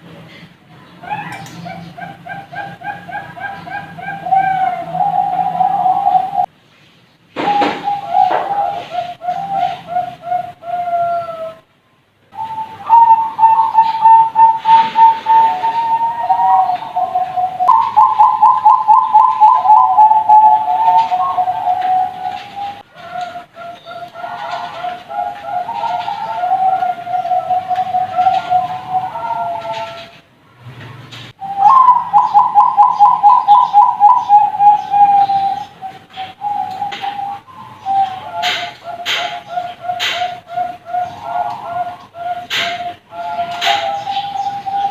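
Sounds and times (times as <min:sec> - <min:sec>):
doves cooing: 0:01.0 - 0:06.5, 0:07.4 - 0:11.7, 0:12.4 - 0:30.3, 0:31.4 - 0:44.9.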